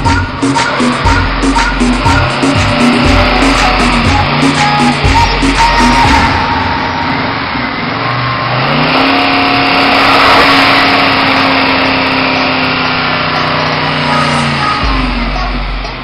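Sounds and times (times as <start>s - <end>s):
suv engine revving: 0.0s - 16.0s.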